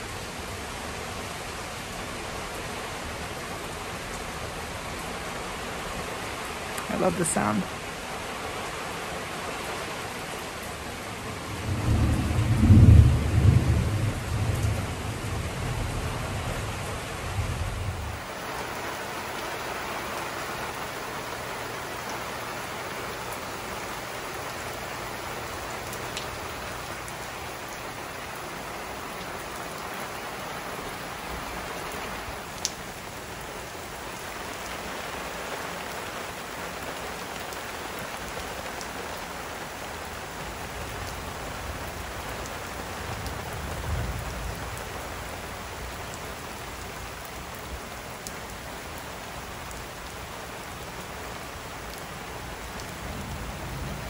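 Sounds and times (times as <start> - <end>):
heavy rain on pavers: 0.0 - 54.0.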